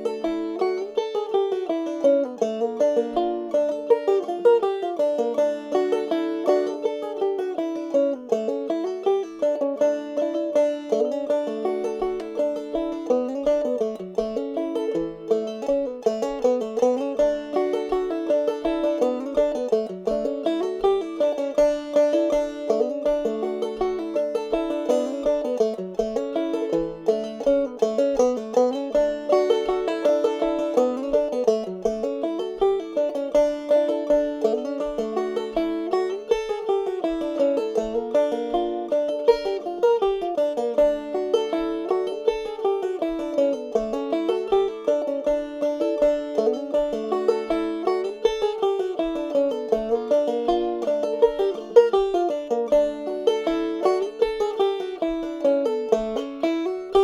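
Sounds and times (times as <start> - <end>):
banjo playing fast fiddle tune: 0.0 - 57.0.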